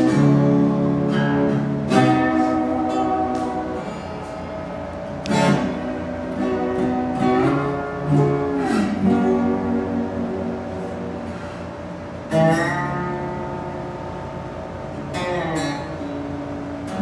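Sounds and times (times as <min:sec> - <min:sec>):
acoustic slide guitar: 0:00.0 - 0:17.0.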